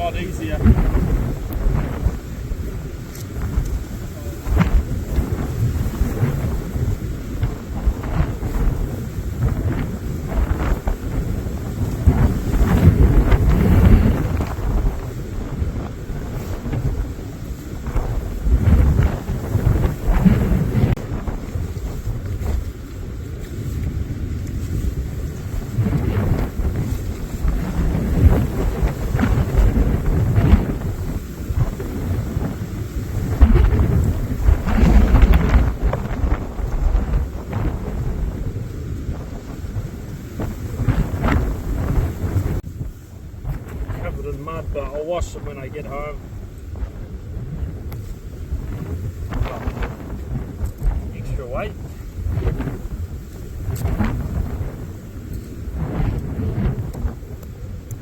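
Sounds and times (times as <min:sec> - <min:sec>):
rain: 0:00.0 - 0:58.0
wind buffeting microphone: 0:00.0 - 0:58.0.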